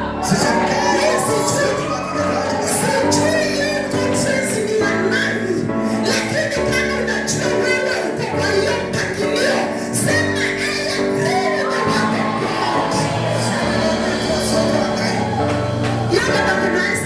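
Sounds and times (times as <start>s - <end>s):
music with singing: 0.0s - 17.0s.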